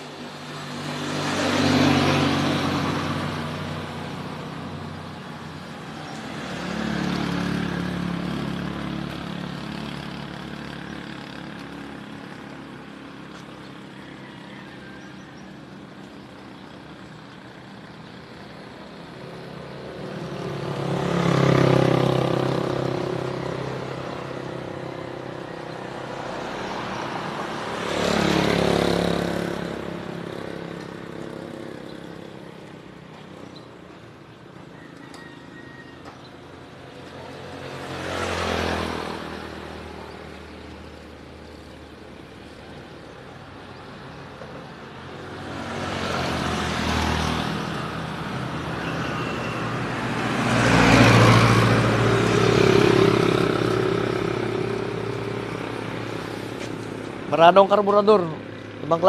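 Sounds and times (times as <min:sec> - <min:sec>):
road vehicles passing by: 0:00.0 - 0:59.0.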